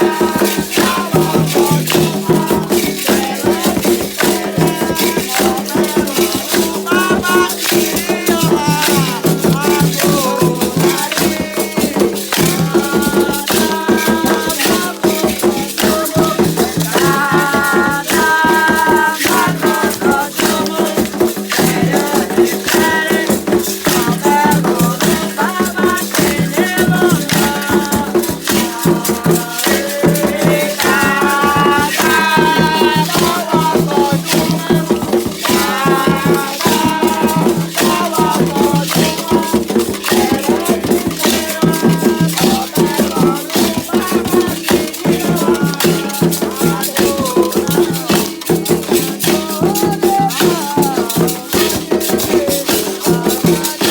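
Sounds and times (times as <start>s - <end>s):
shaken rattle: 0.0s - 53.9s
voices singing: 0.0s - 53.9s.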